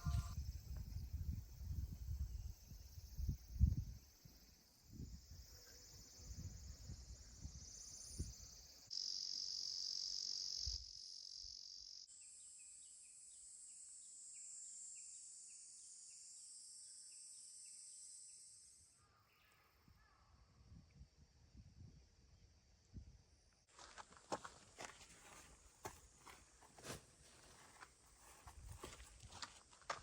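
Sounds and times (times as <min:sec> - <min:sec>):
insects droning: 0:00.0 - 0:20.2, 0:21.2 - 0:30.0.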